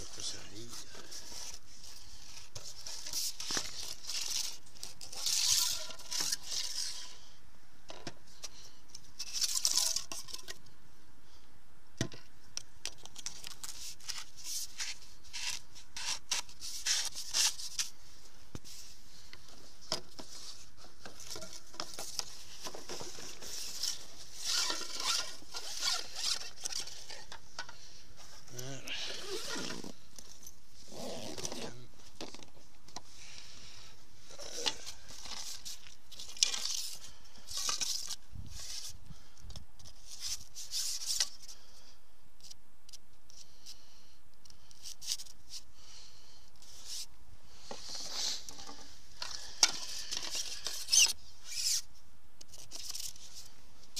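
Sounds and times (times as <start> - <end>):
fishing pole rustling and scraping: 0.0 - 7.4, 8.3 - 10.6, 13.0 - 39.0, 39.8 - 41.7, 46.6 - 53.9.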